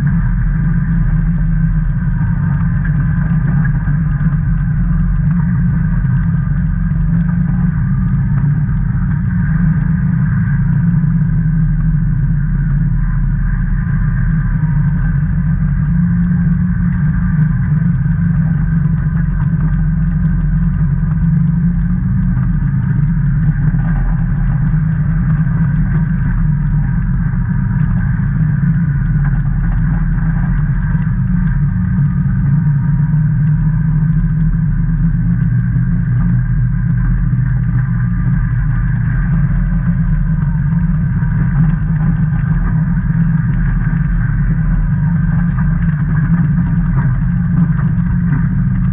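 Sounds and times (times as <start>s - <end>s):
engine drone: 0.0s - 48.9s
thin steady whine: 0.0s - 48.9s.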